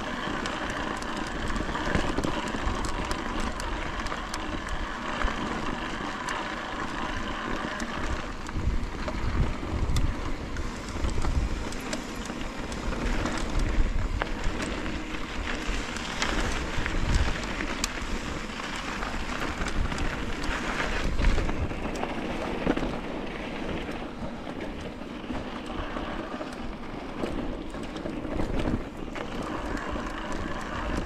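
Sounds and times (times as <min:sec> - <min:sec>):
bike clicks and rattles: 0:00.0 - 0:31.0
bike tyres crunching on dirt: 0:00.0 - 0:31.0
wind rumbling on microphone: 0:00.0 - 0:31.0.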